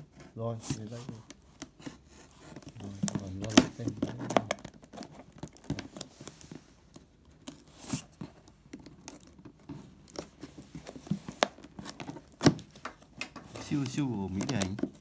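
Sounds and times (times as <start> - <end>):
fingers scratching cardboard: 0.0 - 15.0.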